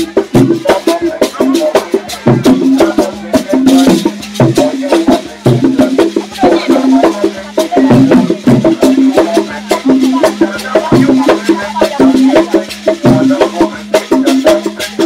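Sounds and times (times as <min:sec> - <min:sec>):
fast percussive beat: 0:00.0 - 0:15.0.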